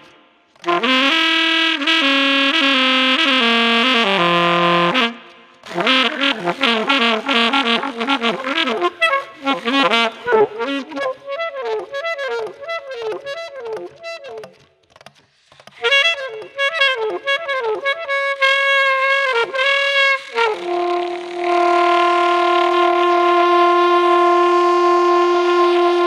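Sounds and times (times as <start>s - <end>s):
saxophone-like wind instrument solo: 0.0s - 14.7s, 15.7s - 26.0s.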